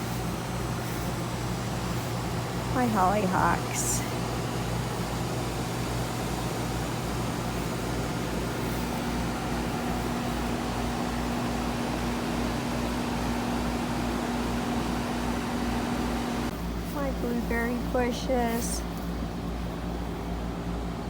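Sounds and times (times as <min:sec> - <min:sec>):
machine hum with hiss: 0:00.0 - 0:21.0.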